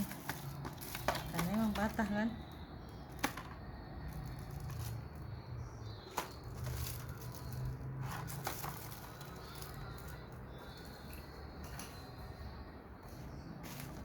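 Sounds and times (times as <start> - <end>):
packaging rustling and crinkling: 0.0 - 5.2, 6.0 - 12.1.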